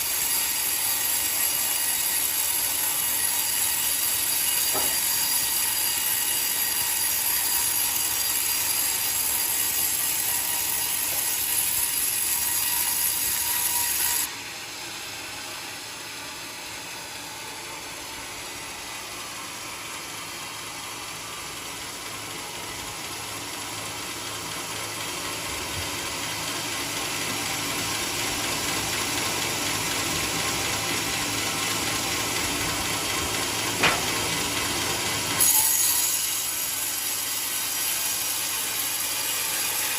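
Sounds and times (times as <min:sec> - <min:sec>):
sawmill sawing through log: 0:00.0 - 0:39.9.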